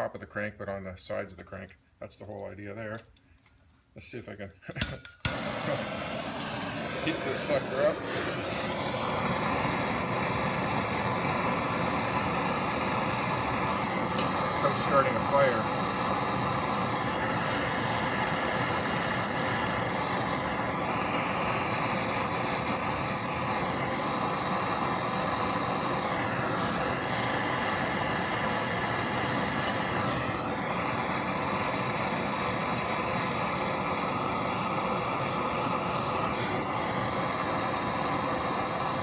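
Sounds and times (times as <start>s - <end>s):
gas torch flame hissing: 4.7s - 39.0s.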